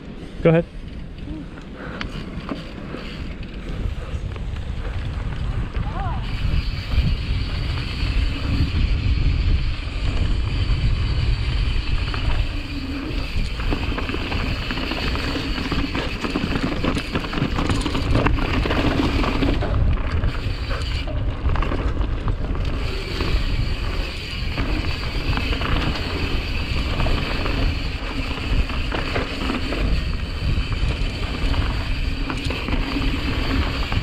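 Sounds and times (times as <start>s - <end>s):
bike tyres on dirt: 0.0s - 34.0s
bike chain and frame rattling: 0.8s - 34.0s
wind on microphone: 2.1s - 34.0s.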